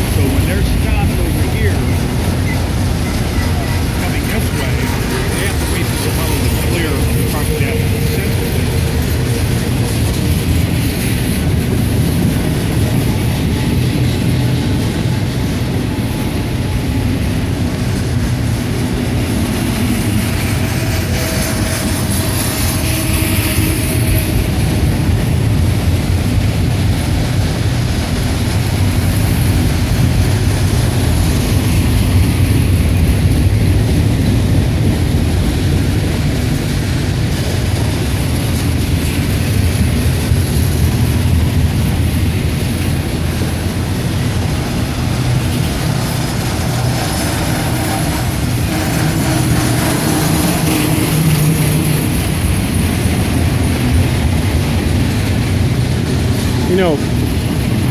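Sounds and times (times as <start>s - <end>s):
freight train rumbling past: 0.0s - 57.9s
low engine drone: 0.0s - 57.9s.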